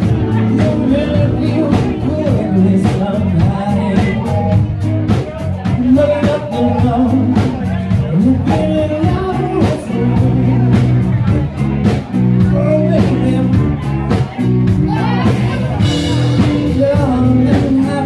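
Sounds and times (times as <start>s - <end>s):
drums: 0.0s - 18.0s
electric bass: 0.0s - 18.0s
lead singer singing: 0.0s - 18.0s.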